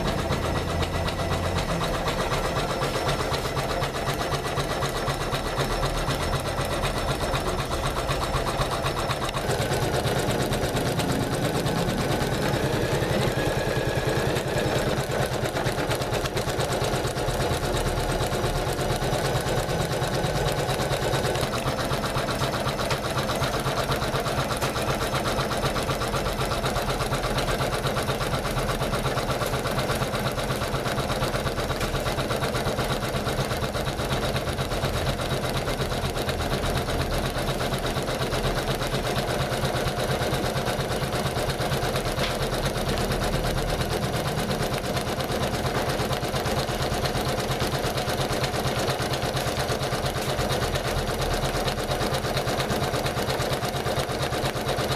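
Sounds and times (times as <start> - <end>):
embroidery machine stitching: 0.0 - 54.9.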